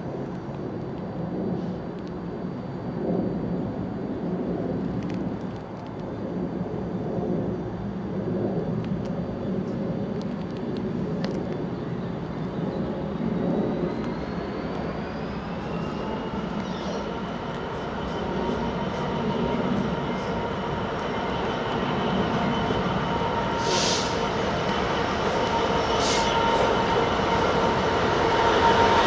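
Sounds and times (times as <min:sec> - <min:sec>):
approaching train whine: 0:00.0 - 0:29.0
low rumble of traffic: 0:00.0 - 0:29.0.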